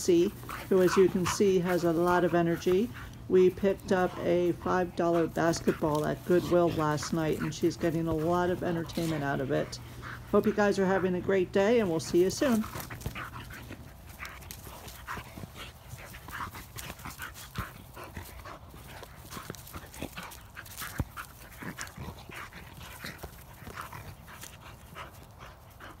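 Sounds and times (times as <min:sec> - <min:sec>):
dog panting: 0:00.0 - 0:26.0.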